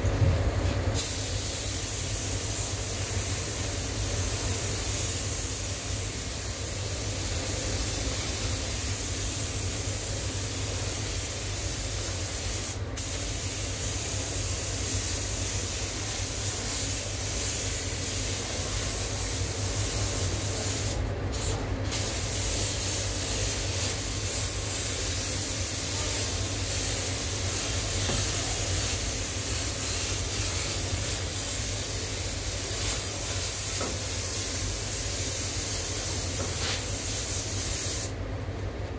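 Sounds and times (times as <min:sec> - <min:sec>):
spray gun hissing: 0:01.0 - 0:38.1.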